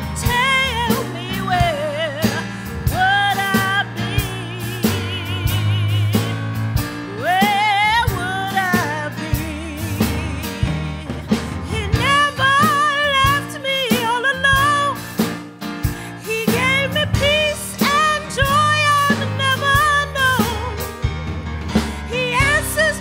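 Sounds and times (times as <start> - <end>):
instrumental accompaniment: 0.0 - 23.0
woman singing gospel: 0.1 - 15.0, 16.2 - 20.8, 22.0 - 23.0.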